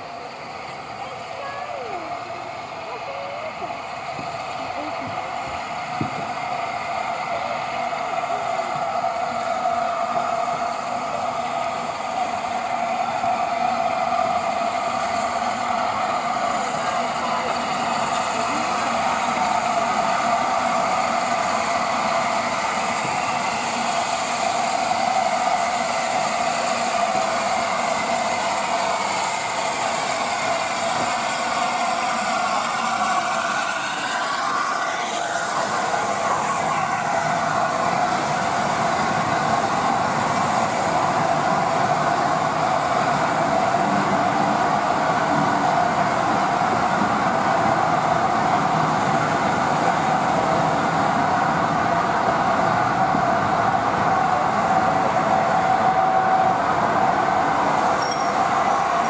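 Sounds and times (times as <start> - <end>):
steam locomotive running slowly: 0.0 - 59.0
wheels rolling on rail: 0.0 - 59.0.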